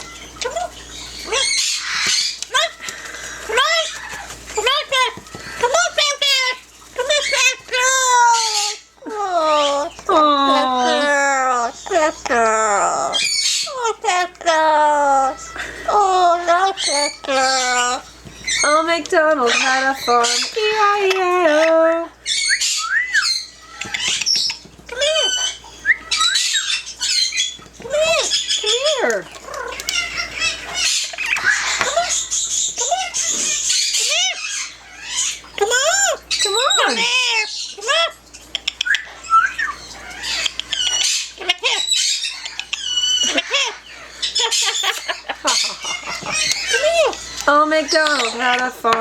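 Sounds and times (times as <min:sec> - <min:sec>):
parrot whistling and squawking: 0:00.0 - 0:49.0.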